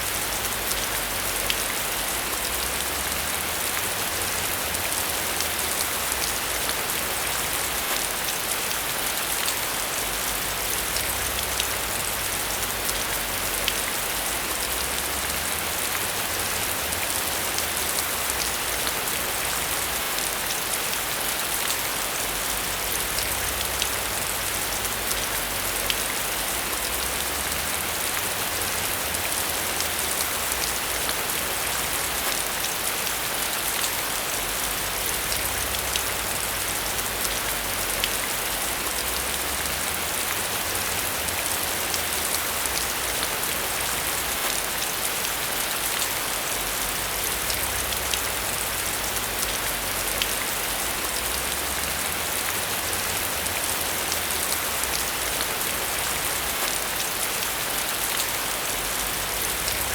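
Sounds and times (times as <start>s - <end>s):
rain pattering on surface: 0.0s - 59.9s.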